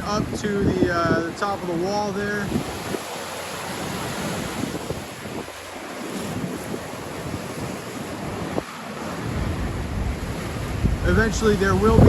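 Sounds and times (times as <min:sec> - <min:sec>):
surf surging against seawall: 0:00.0 - 0:12.0
wind buffeting microphone: 0:00.0 - 0:12.0.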